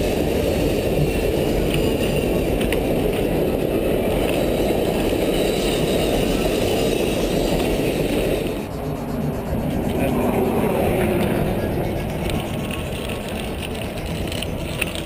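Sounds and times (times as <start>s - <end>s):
passenger train rumbling past: 0.0s - 15.0s
wind and road noise: 0.0s - 15.0s.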